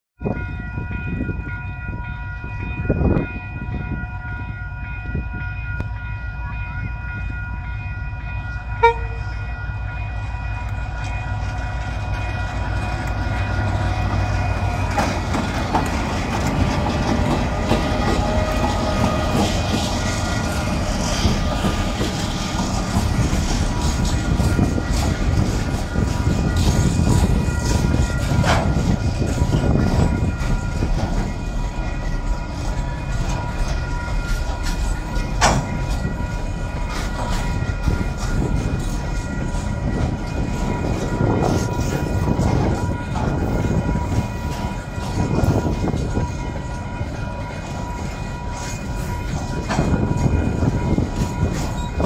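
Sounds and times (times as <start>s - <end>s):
diesel locomotive engine rumble: 0.2s - 52.0s.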